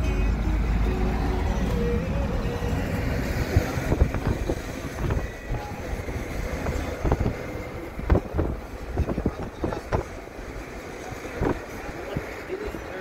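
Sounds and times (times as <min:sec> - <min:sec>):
car road and engine rumble: 0:00.0 - 0:13.0
wind hitting microphone: 0:01.7 - 0:13.0.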